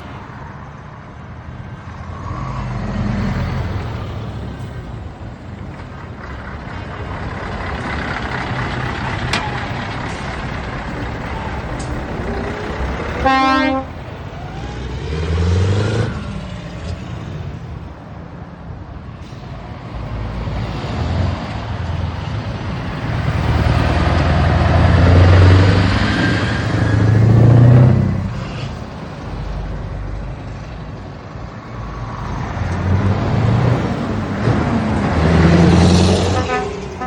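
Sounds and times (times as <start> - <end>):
truck diesel engines rumbling: 0.0 - 37.0.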